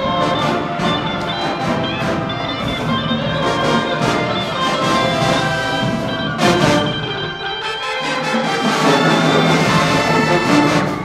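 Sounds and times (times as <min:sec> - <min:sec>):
marching band playing brass tune: 0:00.0 - 0:11.0.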